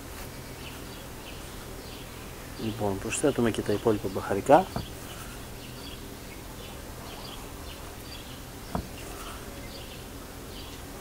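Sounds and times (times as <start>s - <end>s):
steady low hum: 0.0s - 11.0s
faint bird chirps: 0.2s - 11.0s.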